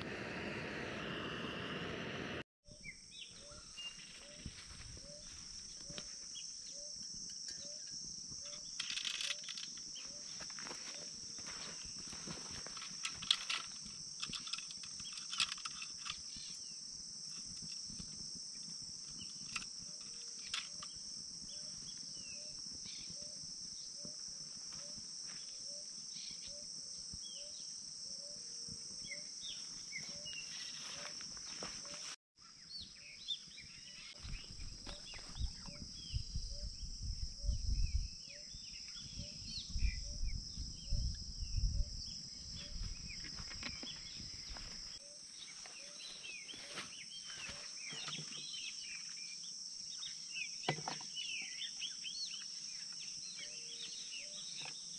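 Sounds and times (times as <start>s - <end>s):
birds chirping: 2.7s - 16.8s, 19.1s - 54.9s
high-pitched insect chorus: 2.7s - 54.9s.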